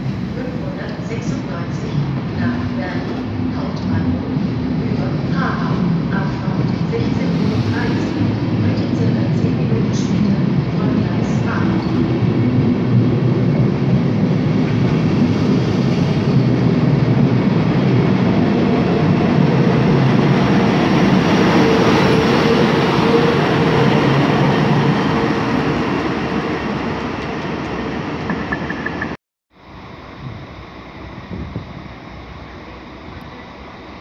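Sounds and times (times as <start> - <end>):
train wheels rumbling: 0.0 - 29.2
electric locomotive hum: 0.0 - 34.0.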